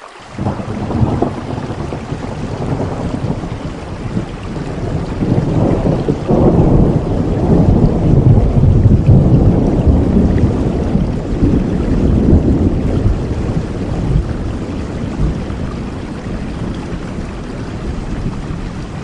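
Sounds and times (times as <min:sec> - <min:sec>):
heavy rain: 0:00.0 - 0:19.0
thunder rumbling: 0:00.4 - 0:19.0.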